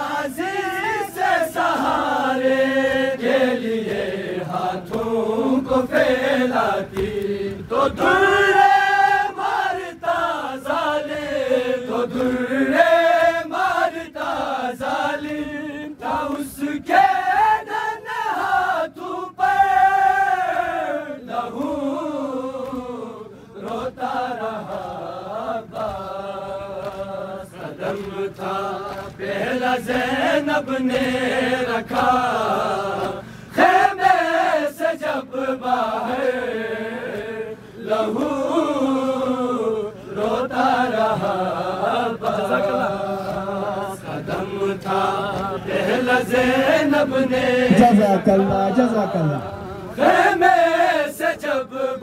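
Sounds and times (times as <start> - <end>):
voices chanting a lament: 0.0 - 52.0.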